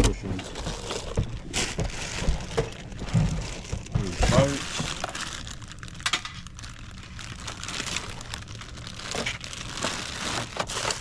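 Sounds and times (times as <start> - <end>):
plastic bag crinkling: 0.2 - 11.0.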